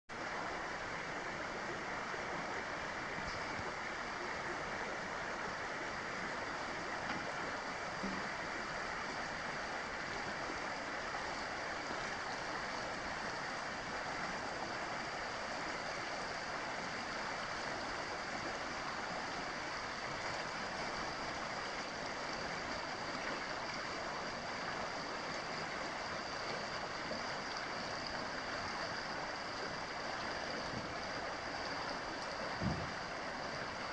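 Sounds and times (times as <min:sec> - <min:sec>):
creek running over rocks: 0:00.1 - 0:33.9.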